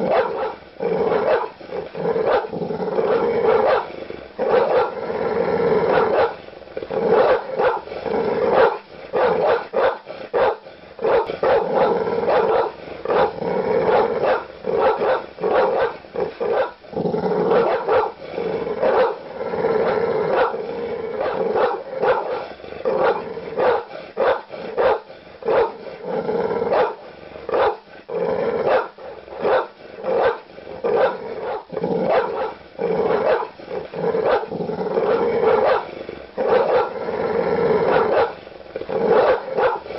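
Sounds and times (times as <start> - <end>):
large dogs barking: 0.0 - 5.1, 5.7 - 27.9, 28.5 - 39.9.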